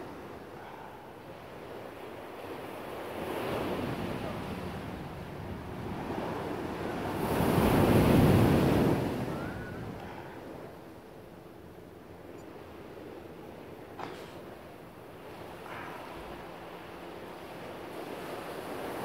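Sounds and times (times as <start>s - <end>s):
ocean waves on a beach: 0.0s - 19.0s.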